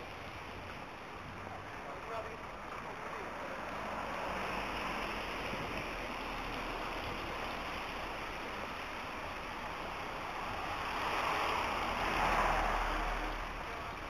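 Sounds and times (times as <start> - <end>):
rain hiss on wet street: 0.0 - 14.0
tyres on wet road: 0.0 - 14.0.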